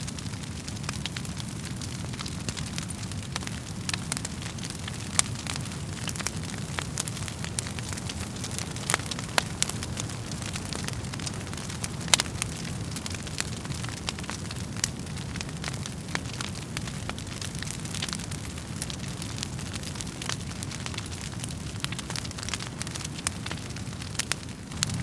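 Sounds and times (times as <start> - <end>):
low rumble of flames: 0.0 - 25.0
wood fire popping and snapping: 0.0 - 25.0.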